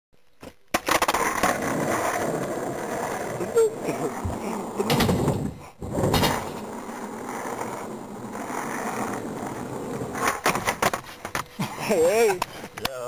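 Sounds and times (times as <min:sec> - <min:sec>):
skateboard wheels rolling on asphalt: 0:00.2 - 0:13.0.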